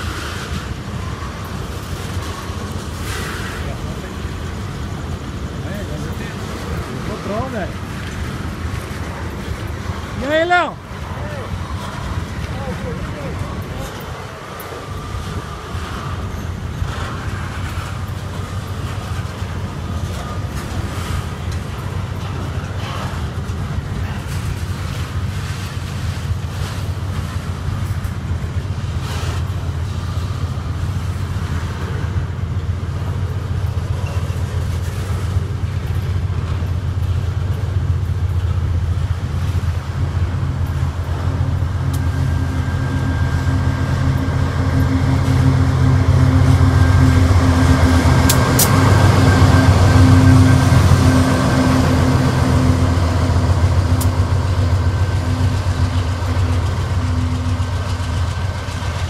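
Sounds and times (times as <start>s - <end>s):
locomotive engine hum and whine: 0.0s - 59.0s
train wheels rumbling on rail: 0.0s - 59.0s.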